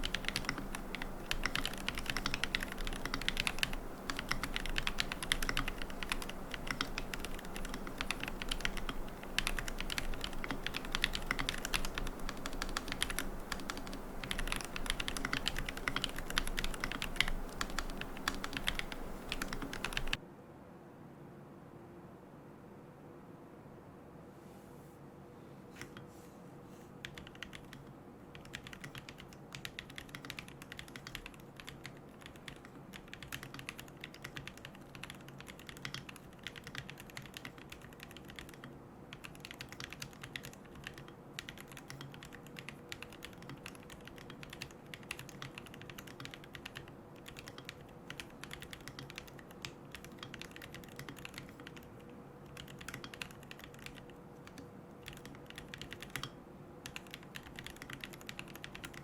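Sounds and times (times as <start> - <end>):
mechanical keyboard typing: 0.0 - 20.2, 27.0 - 59.0.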